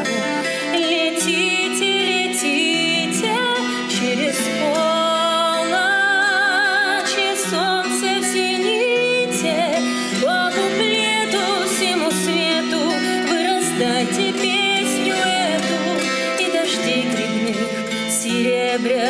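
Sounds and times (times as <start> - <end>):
woman singing pop song: 0.0 - 19.0.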